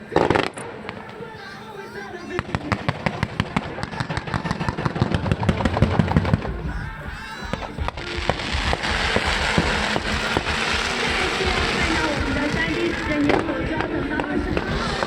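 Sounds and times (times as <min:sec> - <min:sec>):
fireworks popping and crackling: 0:00.0 - 0:15.0
music: 0:00.0 - 0:15.0.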